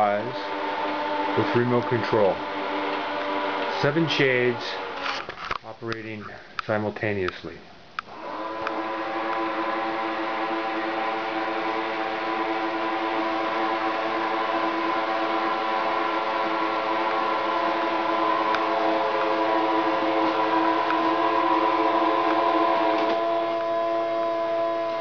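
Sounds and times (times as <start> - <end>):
motors whining: 0.0 - 5.6, 8.0 - 25.0.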